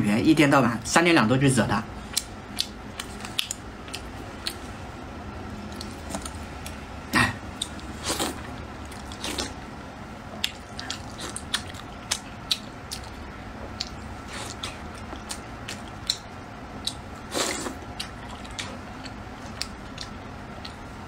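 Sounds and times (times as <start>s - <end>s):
man chewing food: 2.0s - 21.0s.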